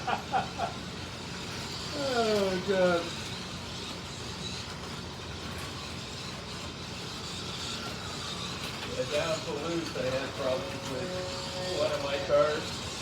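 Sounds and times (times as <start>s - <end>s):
whir of small electric motors: 0.0s - 13.0s.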